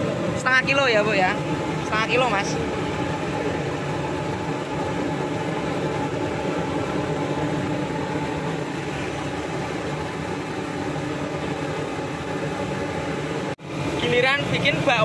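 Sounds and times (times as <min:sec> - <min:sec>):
mechanical drone with hiss: 0:00.0 - 0:15.0.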